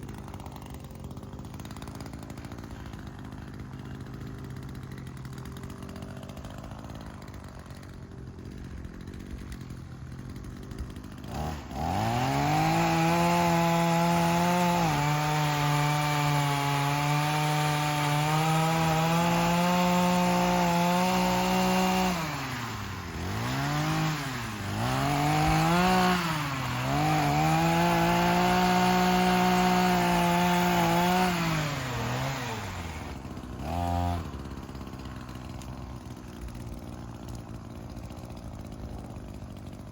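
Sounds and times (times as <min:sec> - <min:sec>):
chainsaw cutting tree limbs: 0:00.0 - 0:39.9
chainsaw engine revving: 0:00.0 - 0:39.9.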